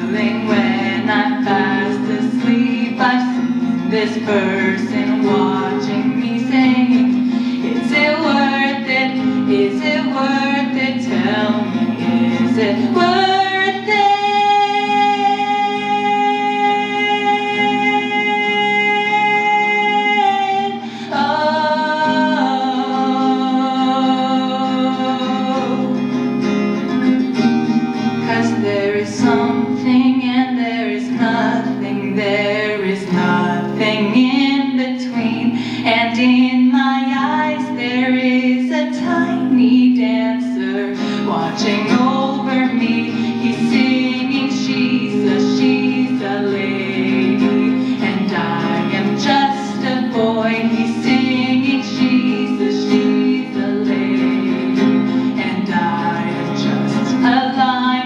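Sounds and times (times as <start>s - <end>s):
girl singing: 0.0s - 26.4s, 28.0s - 58.0s
acoustic guitar: 0.0s - 58.0s.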